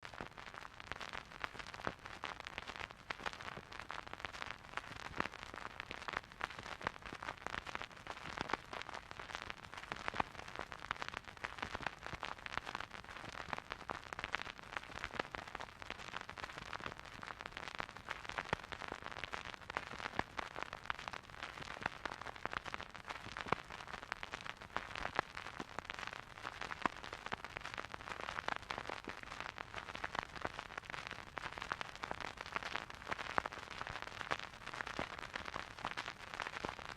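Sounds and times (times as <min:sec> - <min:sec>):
vinyl record crackle and hiss: 0:00.0 - 0:36.9.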